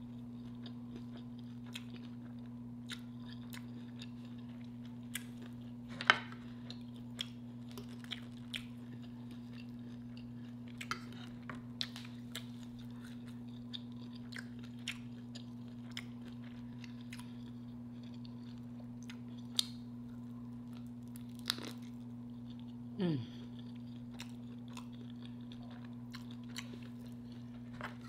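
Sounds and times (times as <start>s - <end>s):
chewing and crunching: 0.0s - 28.0s
steady low hum: 0.0s - 28.0s.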